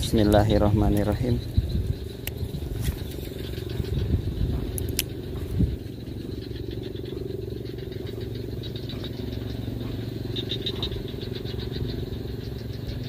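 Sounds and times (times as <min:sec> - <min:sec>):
high pulsing frog calls: 0:00.0 - 0:13.0
low steady drone: 0:00.0 - 0:13.0.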